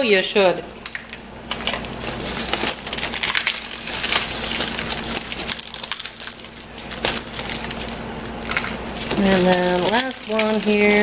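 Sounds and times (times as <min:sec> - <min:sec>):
dried chili pods crackling: 0:00.0 - 0:11.0
plastic bag crinkling: 0:00.8 - 0:11.0.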